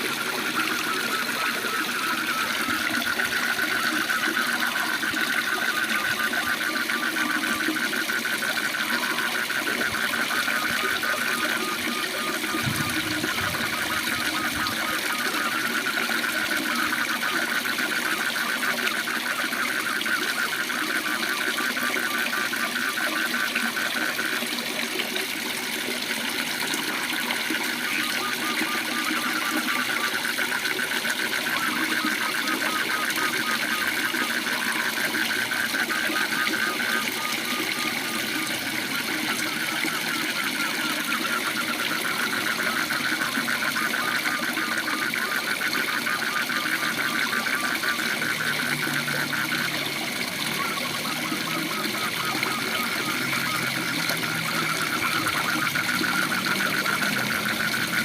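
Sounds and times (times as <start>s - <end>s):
frogs trilling: 0.0s - 58.0s.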